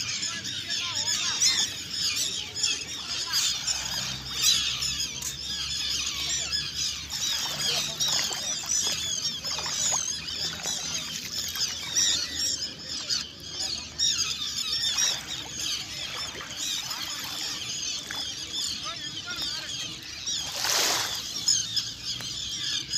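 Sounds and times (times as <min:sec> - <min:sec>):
seabirds calling: 0:00.0 - 0:22.9.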